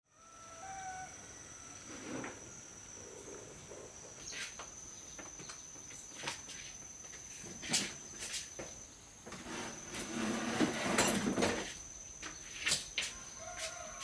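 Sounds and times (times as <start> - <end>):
crickets trilling: 0.1 - 14.0.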